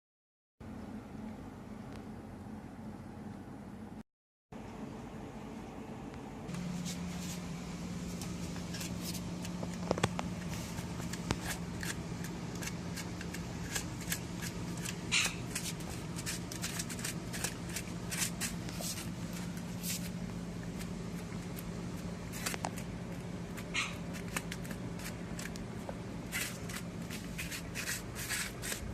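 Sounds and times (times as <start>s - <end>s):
low hum: 0.6s - 4.0s, 4.6s - 28.9s.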